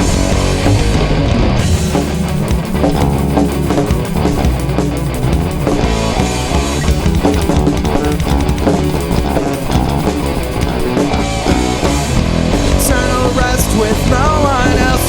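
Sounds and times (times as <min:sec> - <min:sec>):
instrumental rock music: 0:00.0 - 0:15.0
sliding pitch lead line: 0:00.0 - 0:15.0.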